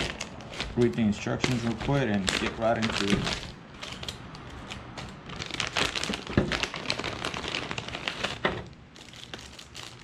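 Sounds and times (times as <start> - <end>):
paper and plastic rustling: 0.0 - 10.0.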